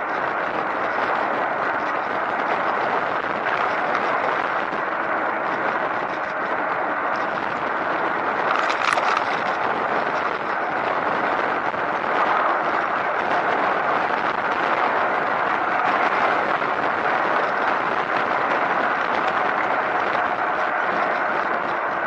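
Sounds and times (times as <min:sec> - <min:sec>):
crackle: 0:00.0 - 0:22.0
wind and road noise on microphone: 0:00.0 - 0:22.0.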